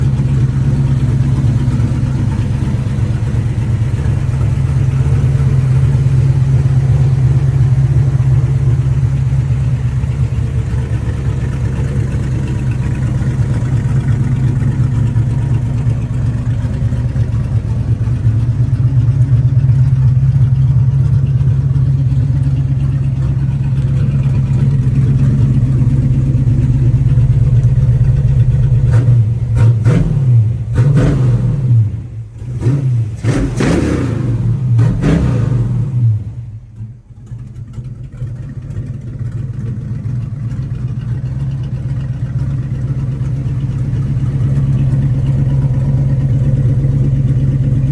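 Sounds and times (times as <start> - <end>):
truck engine idling: 0.0 - 30.8, 36.0 - 47.9.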